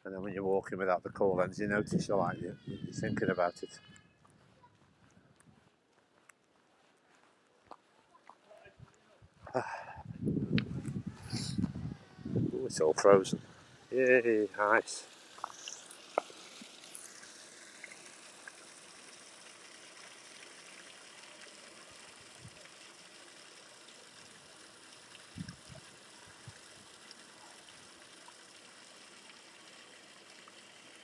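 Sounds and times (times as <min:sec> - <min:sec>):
water trickling over stones: 0:00.0 - 0:31.0.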